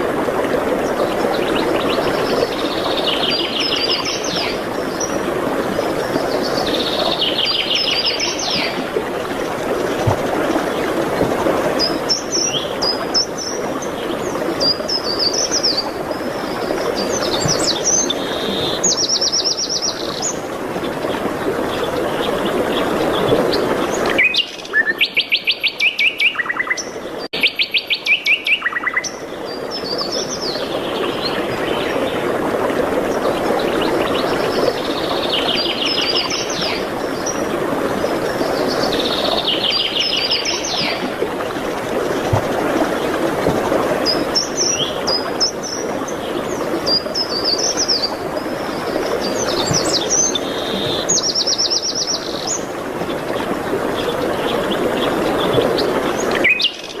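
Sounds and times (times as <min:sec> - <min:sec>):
songbirds singing: 0:00.8 - 0:11.0, 0:11.7 - 0:32.4, 0:33.1 - 0:41.2, 0:43.9 - 0:57.0.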